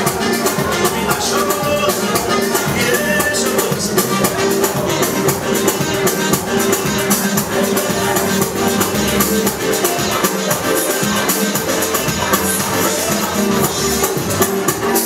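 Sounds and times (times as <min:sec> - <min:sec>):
latin dance music: 0:00.0 - 0:15.0.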